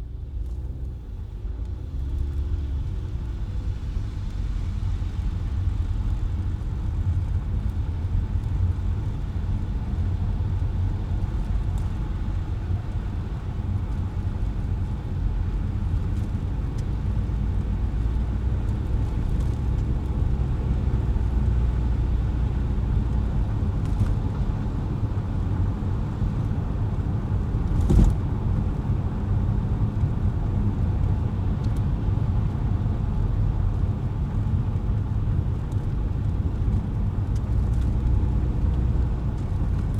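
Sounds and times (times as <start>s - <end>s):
tyres and engine rumble: 0.0s - 39.9s.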